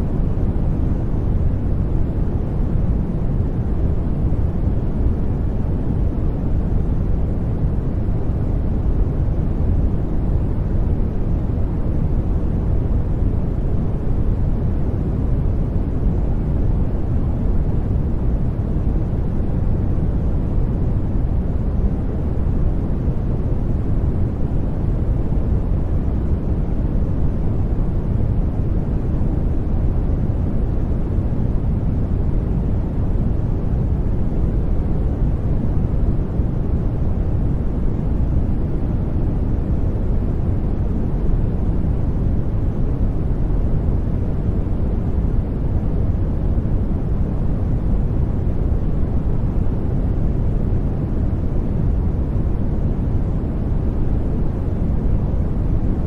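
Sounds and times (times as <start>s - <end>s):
deep steady noise hiss: 0.0s - 56.0s.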